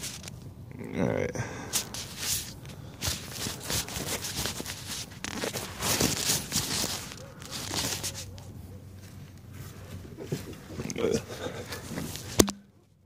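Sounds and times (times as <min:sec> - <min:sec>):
hands rustling and scuffing: 0:01.6 - 0:12.5.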